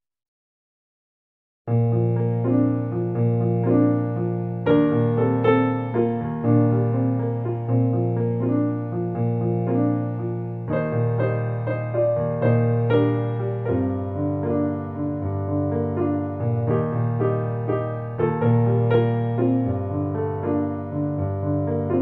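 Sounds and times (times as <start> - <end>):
gentle piano music: 1.7 - 22.0.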